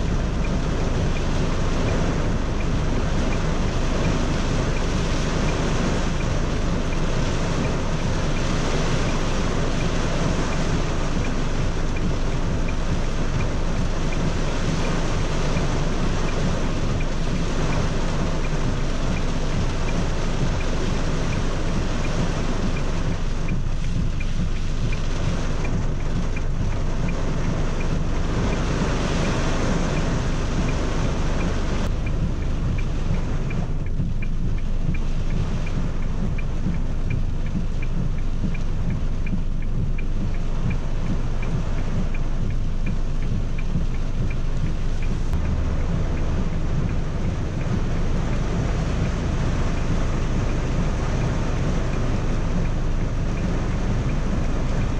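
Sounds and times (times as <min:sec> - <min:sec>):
heavy rain on a car: 0:00.0 - 0:54.9.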